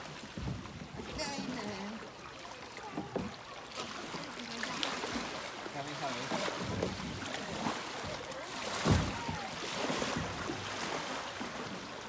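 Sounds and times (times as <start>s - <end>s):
paddles splashing in water: 0.0s - 12.0s
water sloshing against hull: 0.0s - 12.0s.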